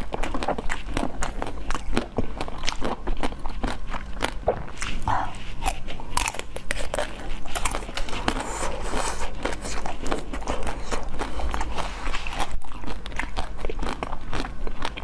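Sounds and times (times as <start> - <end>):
crunching and chewing frozen treats: 0.0 - 15.0.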